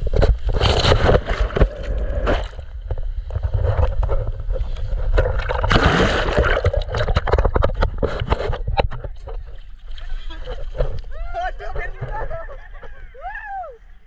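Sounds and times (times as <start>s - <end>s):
water sloshing and splashing: 0.0s - 12.9s.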